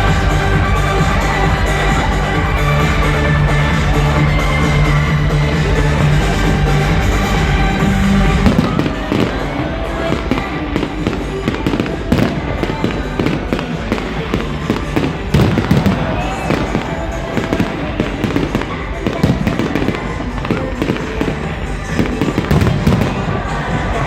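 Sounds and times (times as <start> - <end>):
fireworks bangs and crackling: 0.0 - 24.0
music: 0.0 - 24.0
people's voices: 0.0 - 24.0.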